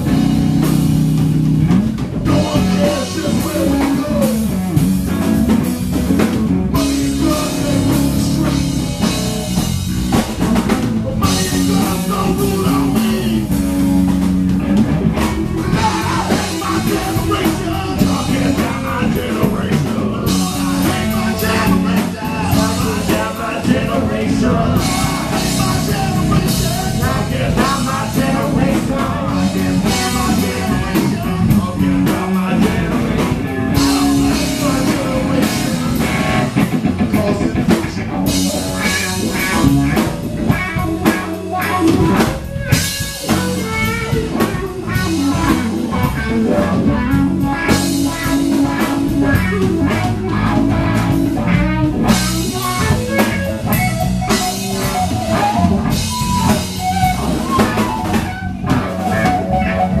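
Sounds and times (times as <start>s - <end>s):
bass guitar: 0.0s - 60.0s
drum kit: 0.0s - 60.0s
electric guitar: 0.0s - 60.0s.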